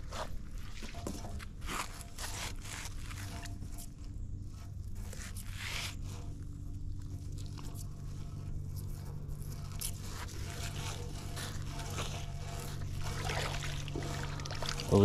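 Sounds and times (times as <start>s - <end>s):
rope scraping: 0.0s - 15.0s.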